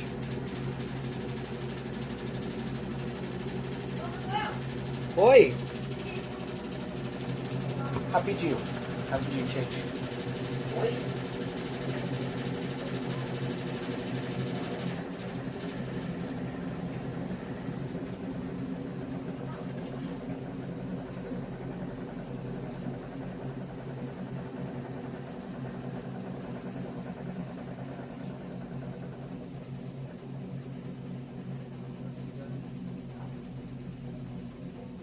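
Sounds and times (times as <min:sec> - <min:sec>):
washing machine spin cycle: 0:00.0 - 0:35.0.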